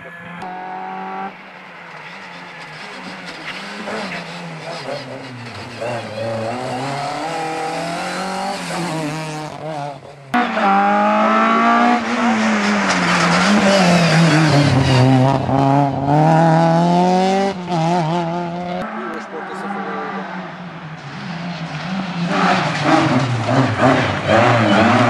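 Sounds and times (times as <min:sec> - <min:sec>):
rally car engine accelerating: 0:00.1 - 0:25.0.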